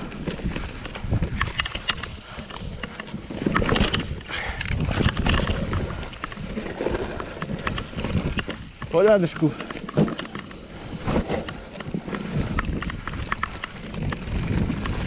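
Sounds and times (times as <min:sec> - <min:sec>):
bike rattling over bumps: 0:00.0 - 0:15.0
bike tyres crackling over leaves: 0:00.0 - 0:15.0.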